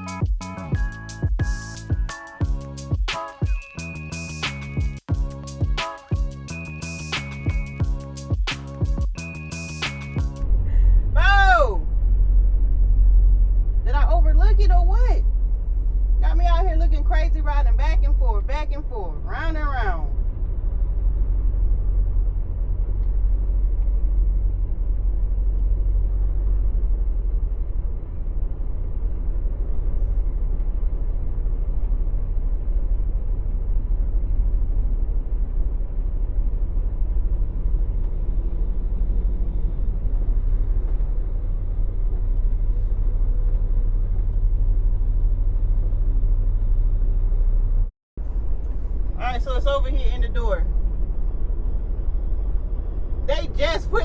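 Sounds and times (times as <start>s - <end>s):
truck diesel engine droning: 0.0s - 2.9s, 6.3s - 54.0s.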